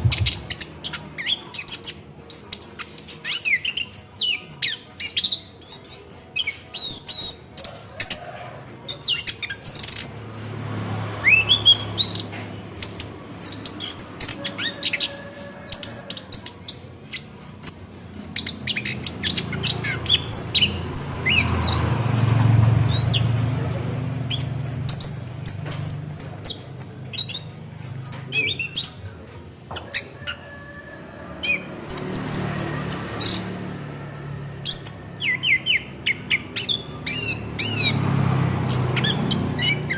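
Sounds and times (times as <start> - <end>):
thrush singing chirps and whistles: 0.0 - 10.2, 11.2 - 29.1, 29.9 - 39.9.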